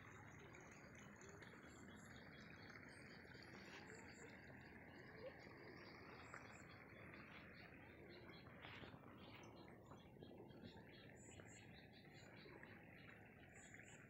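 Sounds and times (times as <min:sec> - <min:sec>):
bird chirp: 0:00.0 - 0:14.0.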